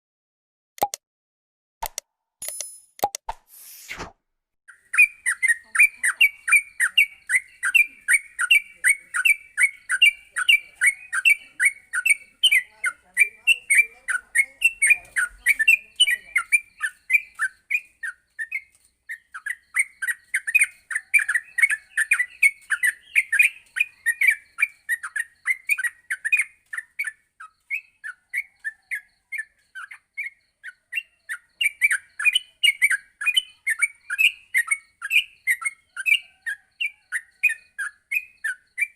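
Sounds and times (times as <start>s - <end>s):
bird chattering song: 4.7s - 38.9s.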